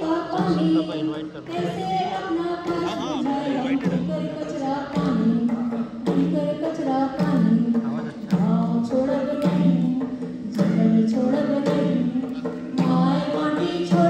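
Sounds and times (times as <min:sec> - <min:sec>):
frame drum beats: 0:00.0 - 0:14.0
person singing: 0:00.0 - 0:14.0.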